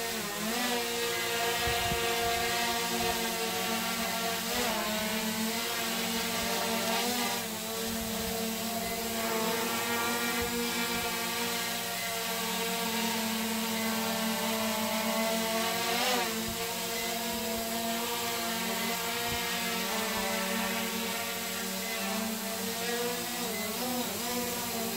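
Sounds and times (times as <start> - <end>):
drone propellers buzzing: 0.0 - 24.9.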